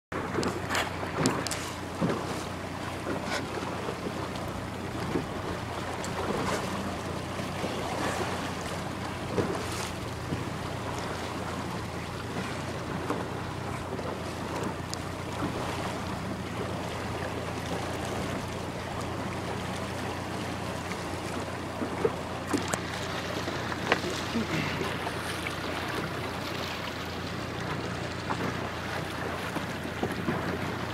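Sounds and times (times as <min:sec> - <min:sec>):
water splashes: 0:00.1 - 0:30.9
waves slapping boat hull: 0:00.1 - 0:30.9
low steady hum: 0:00.2 - 0:30.9.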